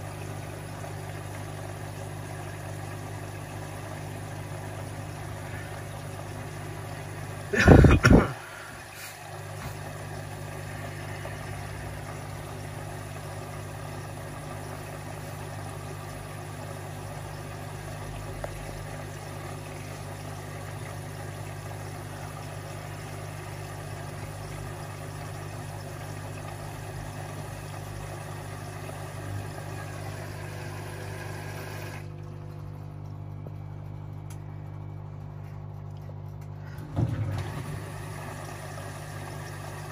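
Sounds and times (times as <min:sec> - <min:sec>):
washing machine hiss: 0:00.0 - 0:32.1, 0:36.6 - 0:39.9
washing machine hum: 0:00.0 - 0:39.9.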